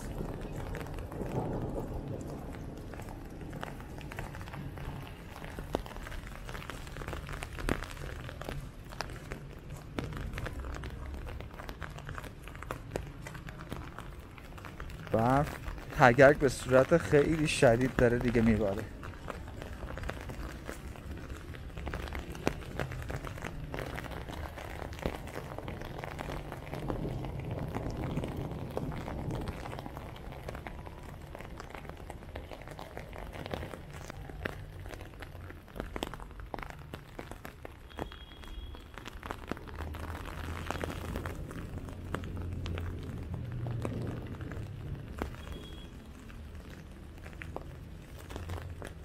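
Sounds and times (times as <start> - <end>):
heavy hail striking hard surfaces: 0.0 - 49.0.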